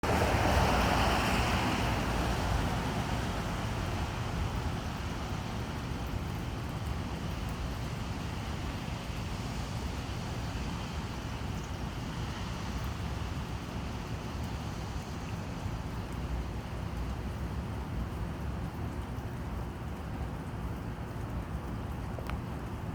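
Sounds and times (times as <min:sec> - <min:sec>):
distant road traffic: 0:00.0 - 0:22.9.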